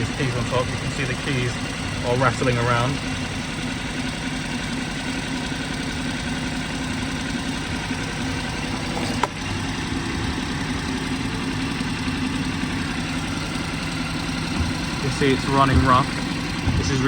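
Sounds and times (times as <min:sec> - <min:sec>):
car engine idling rough: 0:00.0 - 0:17.0.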